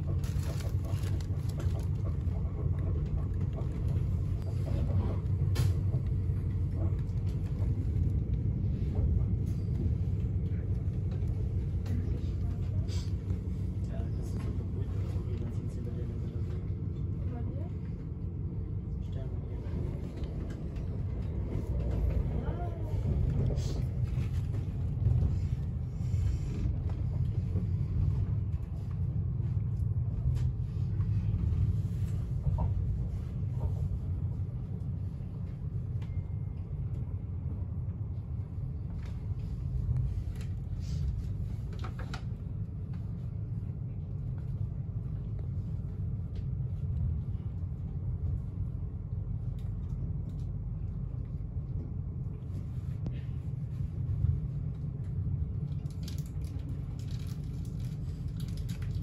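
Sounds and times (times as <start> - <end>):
train rumble from inside: 0.0 - 59.0.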